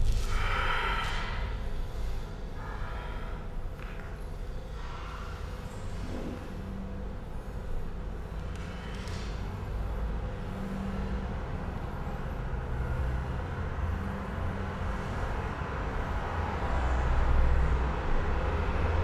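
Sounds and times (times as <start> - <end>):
low ambient rumble: 0.0 - 19.0.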